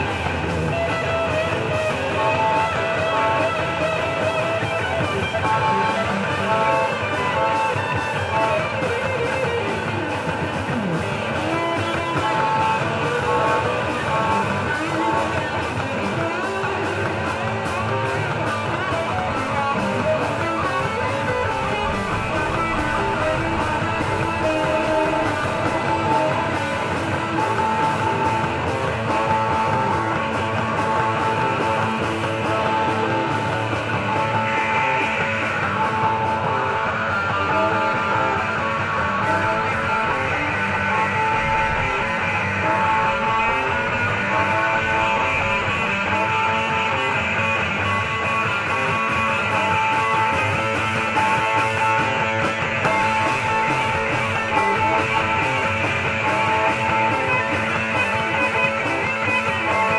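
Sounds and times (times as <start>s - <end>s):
drum beat: 0.0s - 35.4s, 39.1s - 59.9s
electric guitars strumming: 0.0s - 59.9s.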